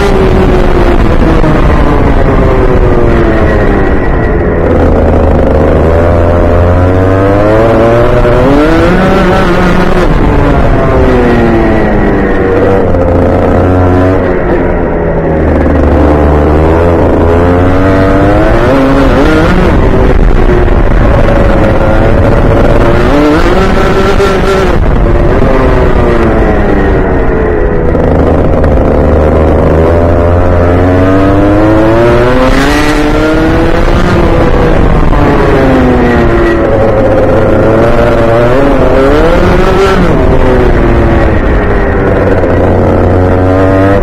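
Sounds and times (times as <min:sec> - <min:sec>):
kart engine at racing speed: 0:00.0 - 0:44.0.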